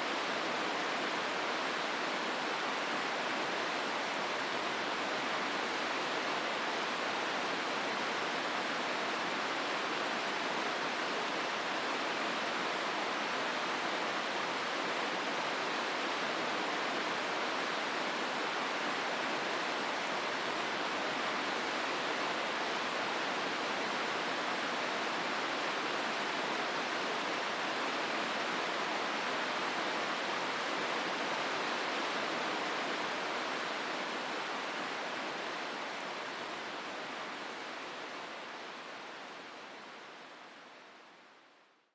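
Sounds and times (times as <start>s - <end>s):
river rushing over rocks: 0.0s - 41.2s.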